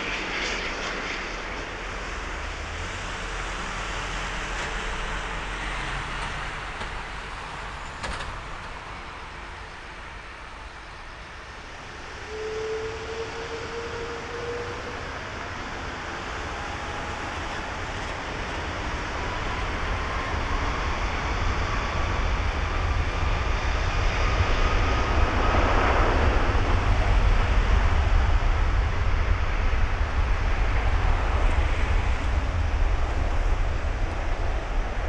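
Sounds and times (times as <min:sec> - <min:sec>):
jet engine rumble with rising whine: 0:00.0 - 0:35.0.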